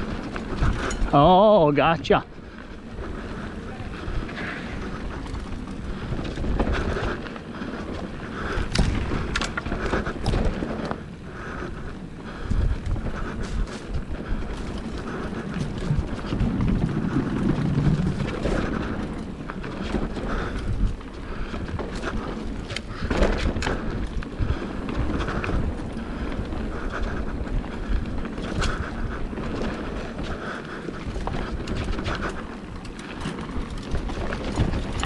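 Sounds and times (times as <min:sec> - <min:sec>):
tyres rumbling over dirt: 0:00.0 - 0:35.0
wind buffeting microphone: 0:00.0 - 0:35.0
bike knocks and rattles: 0:03.8 - 0:11.2, 0:12.4 - 0:26.6, 0:27.2 - 0:35.0.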